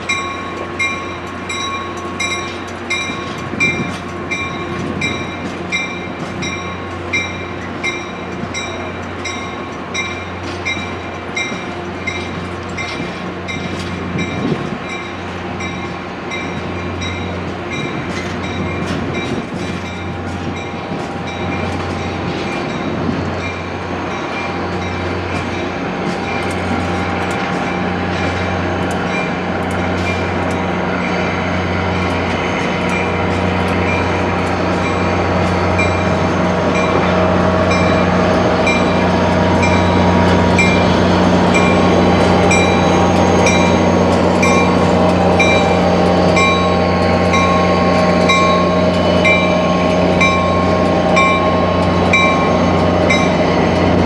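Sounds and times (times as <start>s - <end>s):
train bell ringing: 0.0s - 54.0s
train wheels on rails: 0.0s - 54.0s.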